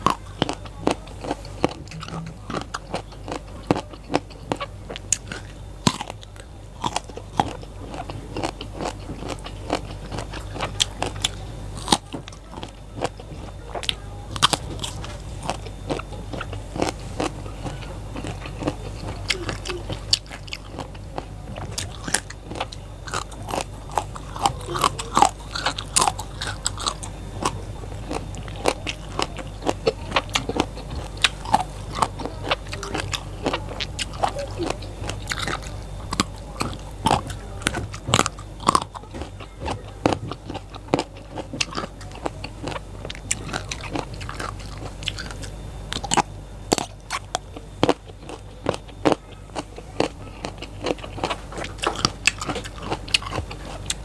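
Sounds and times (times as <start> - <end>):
crunching and chewing vegetables: 0.0 - 54.0.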